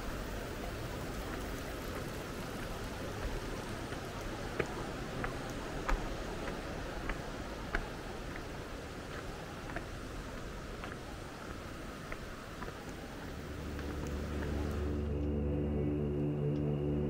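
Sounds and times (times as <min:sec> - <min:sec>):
running water rushing: 0:00.0 - 0:15.2.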